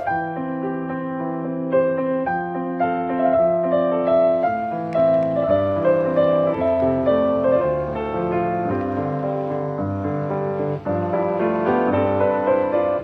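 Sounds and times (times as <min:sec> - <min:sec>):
piano melody with chords: 0:00.0 - 0:13.0.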